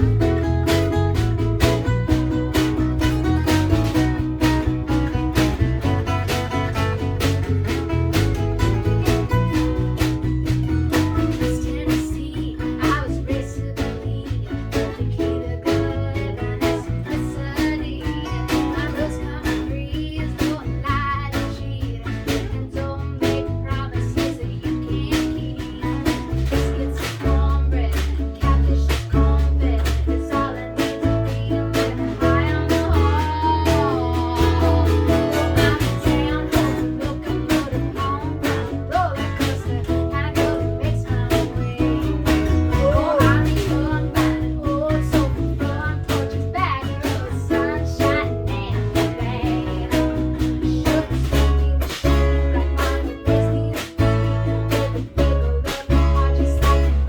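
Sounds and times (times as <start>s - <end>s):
band playing country song: 0.0s - 57.0s
plucked acoustic guitar: 0.0s - 57.0s
steady bass beat: 0.0s - 57.0s.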